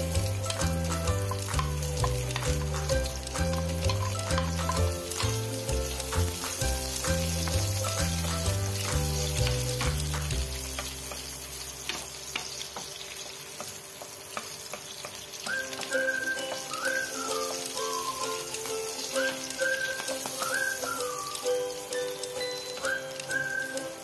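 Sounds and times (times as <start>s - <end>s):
background music: 0.0s - 12.2s, 15.5s - 24.0s
food sizzling in hot oil: 0.0s - 24.0s.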